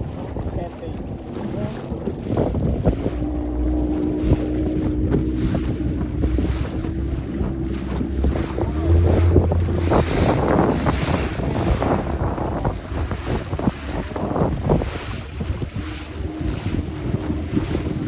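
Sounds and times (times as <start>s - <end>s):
boat engine rumble: 0.0s - 18.0s
water splashing: 0.0s - 18.0s
wind buffeting microphone: 0.0s - 18.0s.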